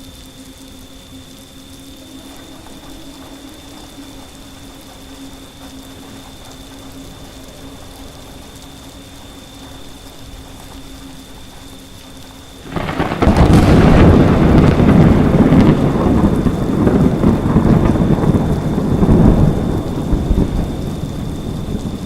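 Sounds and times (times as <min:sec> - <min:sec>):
constant low hum: 0:00.0 - 0:22.0
rain falling: 0:00.0 - 0:22.0.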